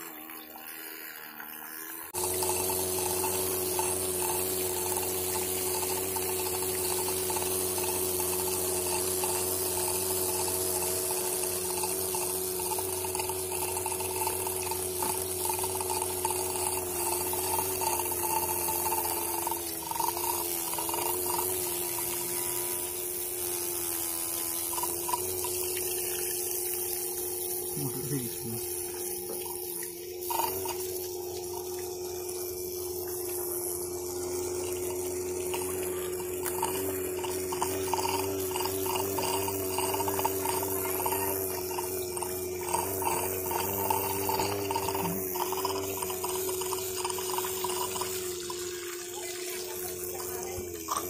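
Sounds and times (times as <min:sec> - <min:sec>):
high motor whine: 0:00.0 - 0:51.0
water jet splashing: 0:00.0 - 0:51.0.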